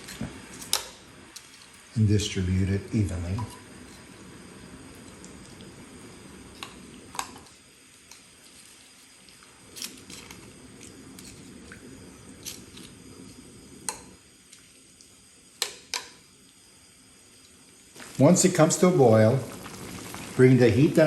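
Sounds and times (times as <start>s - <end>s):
low hiss from heating pot: 0.0s - 21.0s.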